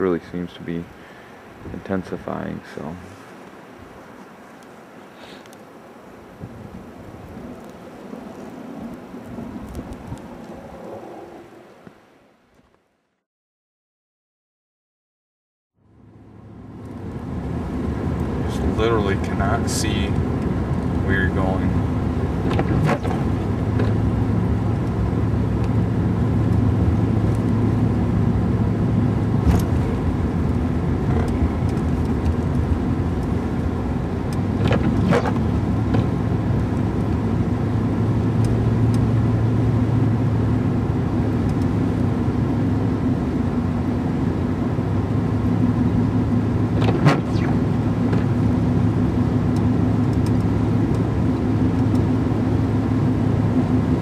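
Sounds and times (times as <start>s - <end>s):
car engine and road hum: 0.0s - 12.9s, 15.8s - 54.0s.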